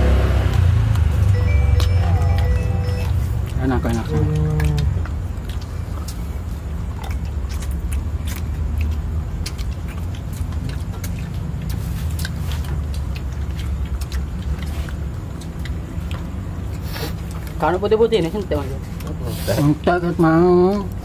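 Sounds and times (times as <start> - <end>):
man chewing with mouth clicks: 0.0 - 21.0.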